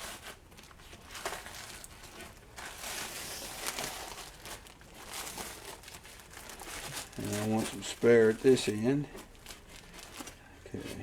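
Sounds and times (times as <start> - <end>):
rustling and crinkling material: 0.0 - 11.0.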